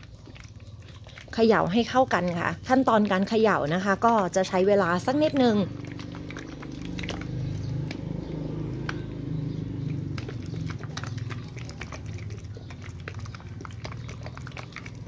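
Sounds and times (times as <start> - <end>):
liquid sloshing in bottle: 0.0 - 15.0.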